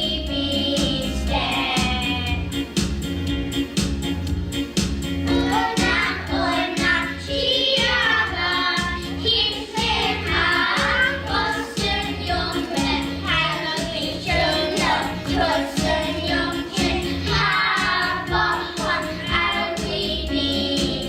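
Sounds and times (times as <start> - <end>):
children singing together: 0.0 - 2.5, 5.3 - 21.0
backing track with steady beat: 0.0 - 21.0.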